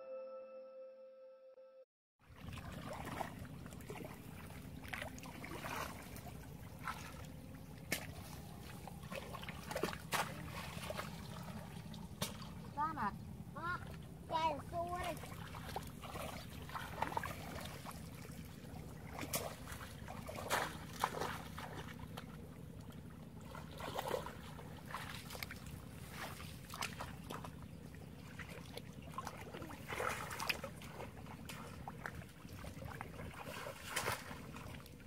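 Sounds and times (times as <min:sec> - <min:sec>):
muddy water sloshing and splashing: 0:02.2 - 0:35.0.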